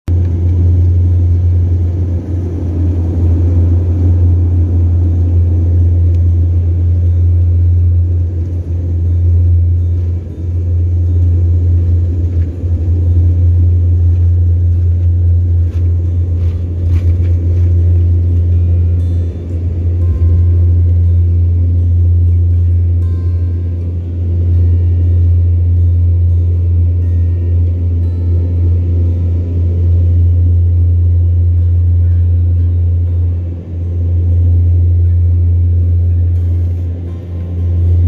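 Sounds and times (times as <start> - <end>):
loud low rumble: 0.0 - 38.0.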